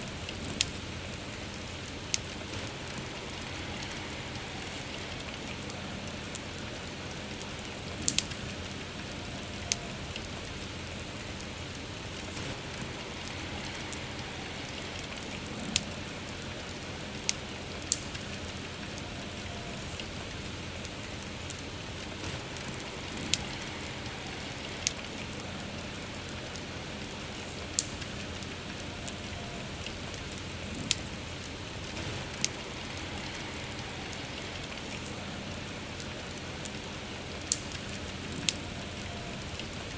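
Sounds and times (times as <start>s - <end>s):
bonfire crackling and popping: 0.0s - 39.9s
soft rain: 0.0s - 39.9s.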